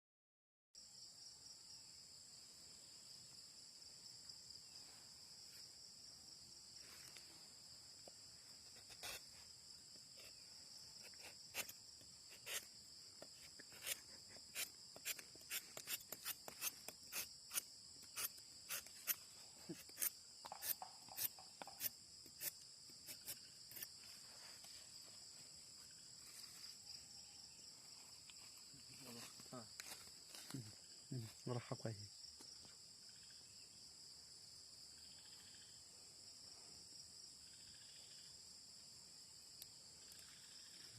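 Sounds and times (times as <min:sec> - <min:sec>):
crickets chirring: 0:00.8 - 0:40.9.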